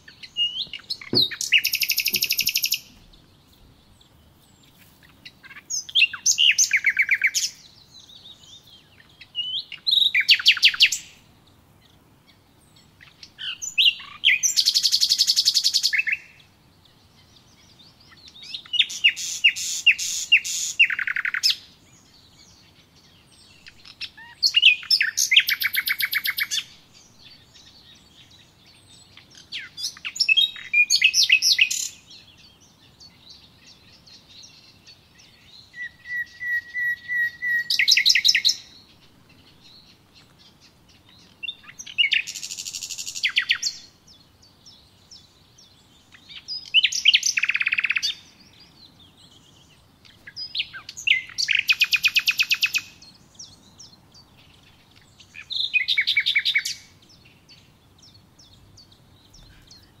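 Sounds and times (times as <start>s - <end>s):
songbird trilling and chirping: 0.0s - 60.0s.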